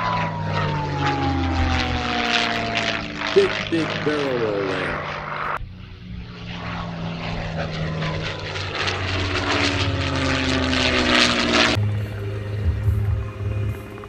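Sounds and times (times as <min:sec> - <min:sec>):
propeller plane engine in flight: 0:00.0 - 0:14.0.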